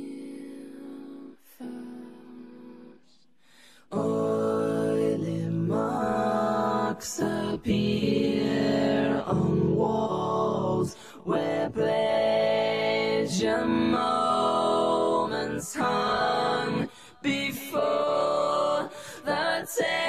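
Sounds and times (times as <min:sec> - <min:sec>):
harmonised a cappella vocals: 0:00.0 - 0:20.0.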